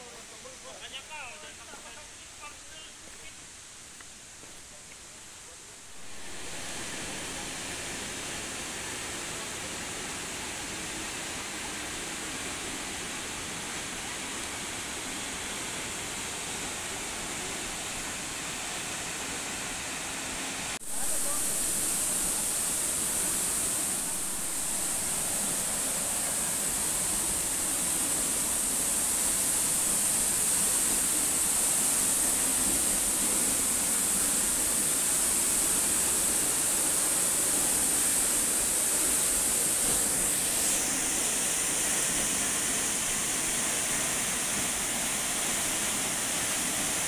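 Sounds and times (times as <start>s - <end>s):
waterfall rushing water: 5.9s - 47.0s.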